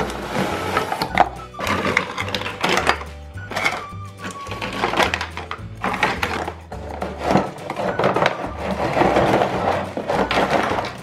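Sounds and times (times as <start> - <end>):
cardboard box and plastic rustling: 0.0 - 11.0.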